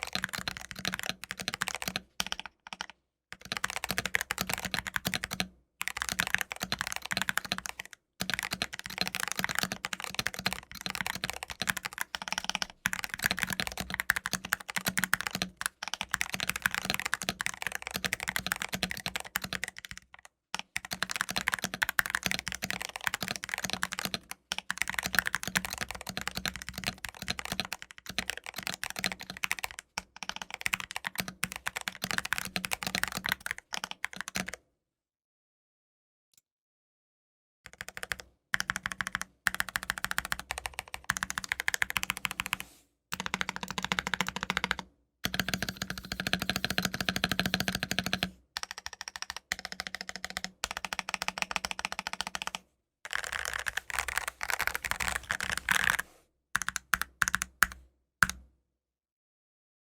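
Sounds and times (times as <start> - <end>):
mechanical keyboard typing: 0.0 - 34.6, 37.7 - 56.0, 56.6 - 58.4.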